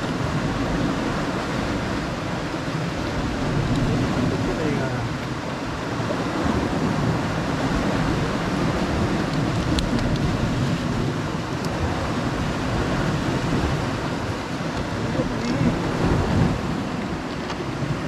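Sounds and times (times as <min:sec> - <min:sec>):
surf washing against rocks: 0:00.0 - 0:18.0
wind buffeting microphone: 0:00.0 - 0:18.0.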